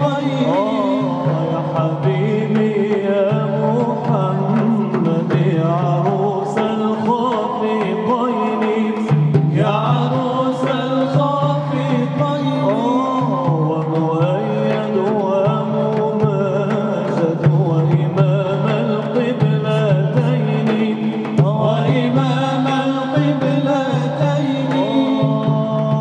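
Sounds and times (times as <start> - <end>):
frame drums with jingles: 0.0 - 26.0
male choir singing devotional song: 0.0 - 26.0.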